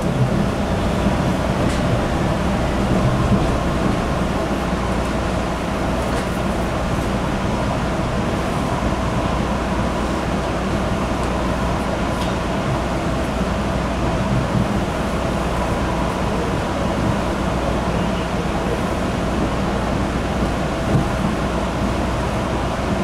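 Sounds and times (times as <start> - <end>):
subway car rumble: 0.0 - 23.0.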